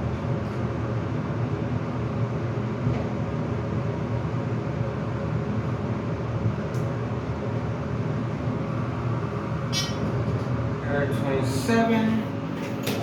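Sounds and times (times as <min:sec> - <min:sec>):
elevator rumble and hum: 0:00.0 - 0:13.0.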